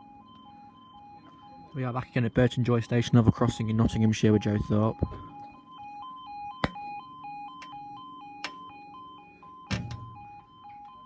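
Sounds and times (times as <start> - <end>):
two-tone crossing alarm: 0.0 - 11.0.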